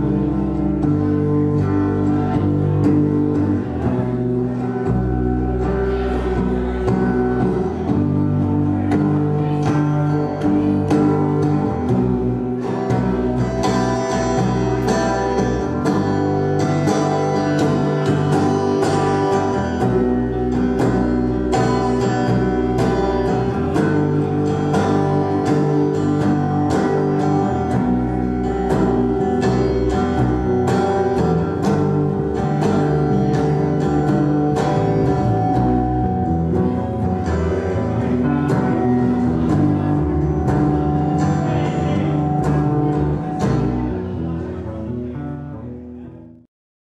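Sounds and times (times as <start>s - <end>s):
live band playing: 0.0s - 45.2s
guitar: 0.0s - 46.5s.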